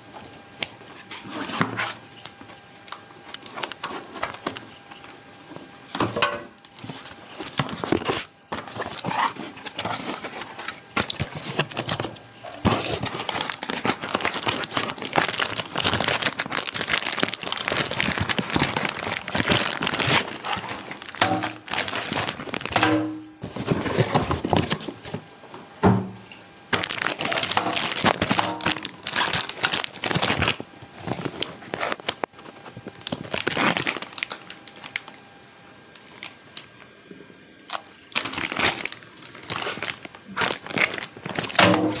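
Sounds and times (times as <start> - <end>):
plastic crinkling and rustling: 0.0 - 25.2, 26.7 - 35.2, 35.9 - 36.8, 37.6 - 42.0.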